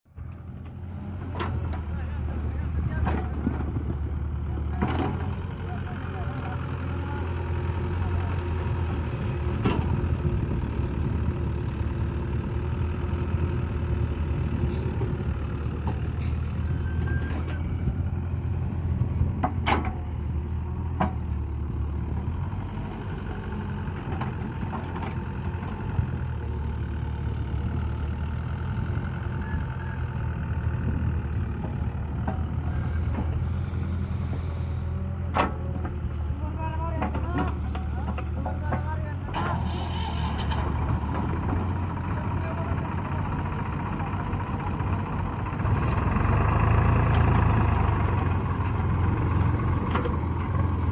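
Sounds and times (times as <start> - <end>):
heavy diesel engine running: 0.1 - 50.9.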